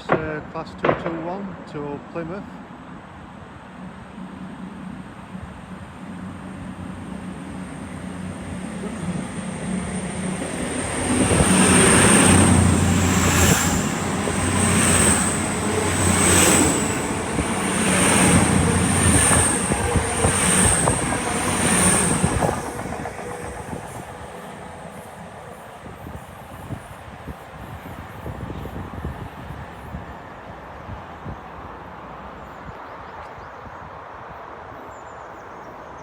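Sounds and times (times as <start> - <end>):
diesel train passing: 0.0 - 33.1.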